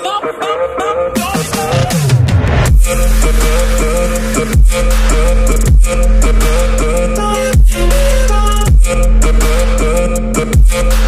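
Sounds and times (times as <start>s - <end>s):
electronic music with bass drop: 0.0s - 11.0s.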